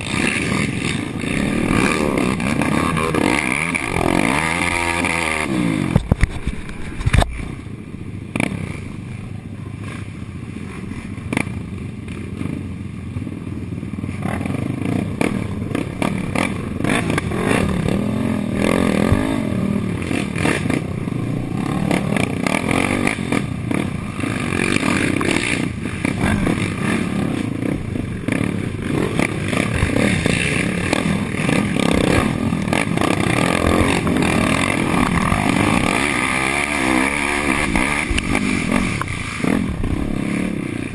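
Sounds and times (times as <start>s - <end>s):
quad engine revving: 0.0s - 7.3s, 8.3s - 8.8s, 14.1s - 40.9s.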